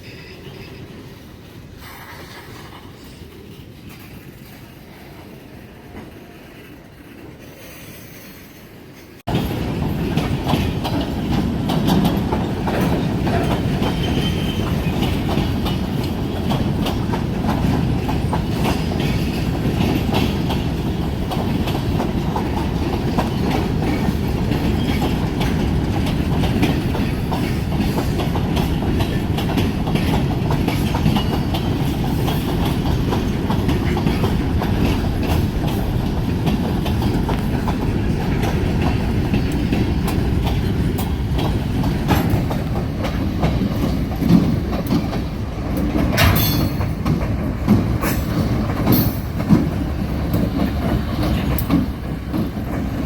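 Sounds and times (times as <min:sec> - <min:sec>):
train wheels clicking on rails: 0:00.0 - 0:53.0.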